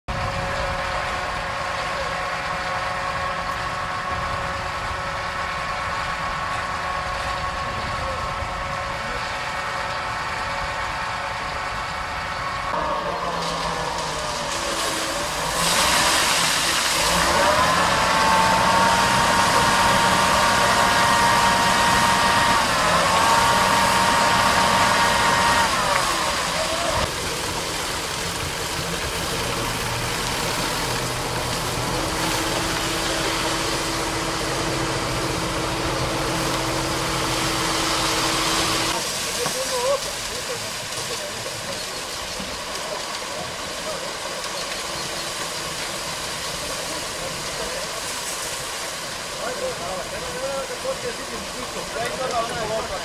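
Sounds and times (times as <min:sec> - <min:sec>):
diesel truck engine revving: 0:00.0 - 0:53.0.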